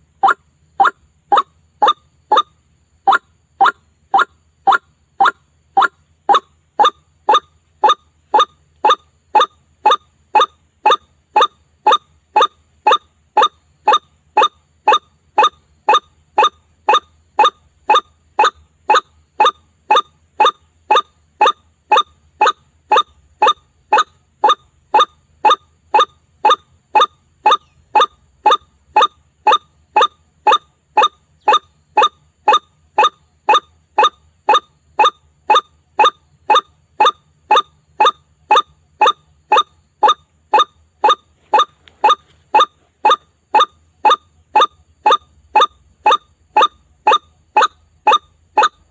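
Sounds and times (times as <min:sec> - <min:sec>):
bird harsh repeated call: 0:00.0 - 0:48.9.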